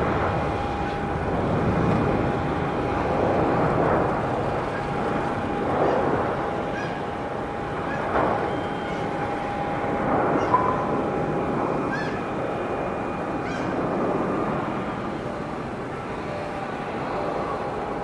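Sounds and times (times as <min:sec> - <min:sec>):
jet engine rumble with whine: 0:00.0 - 0:18.0.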